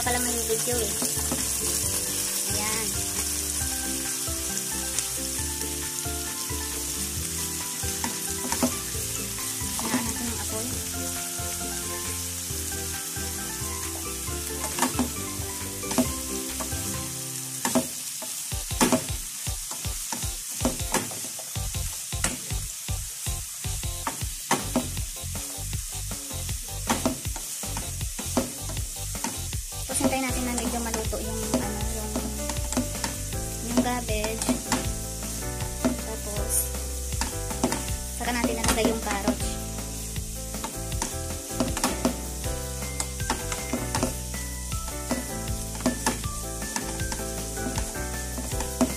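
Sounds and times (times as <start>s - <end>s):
cabbage sizzling in frying pan: 0.0s - 48.9s.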